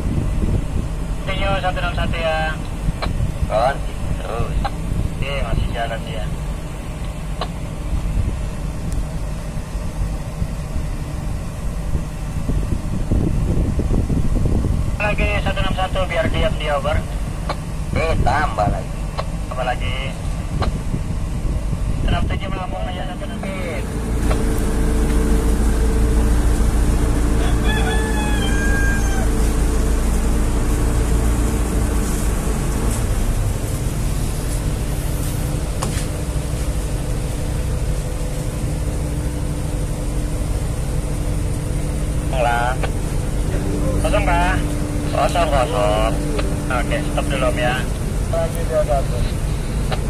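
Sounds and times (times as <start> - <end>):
boat diesel engine rumble: 0.0 - 50.0
wind and water hiss: 0.0 - 50.0.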